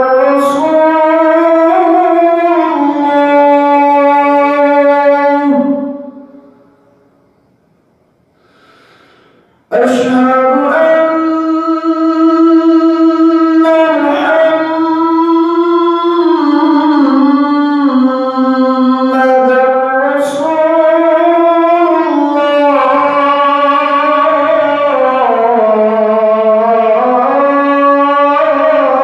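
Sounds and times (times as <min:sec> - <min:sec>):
man chanting into a microphone: 0:00.0 - 0:06.2, 0:09.7 - 0:29.0.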